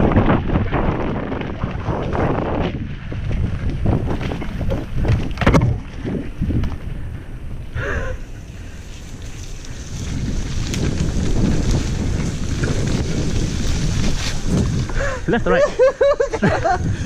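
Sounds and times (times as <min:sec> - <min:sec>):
mountain bike rumbling on dirt trail: 0:00.0 - 0:17.0
wind buffeting microphone: 0:00.0 - 0:17.0.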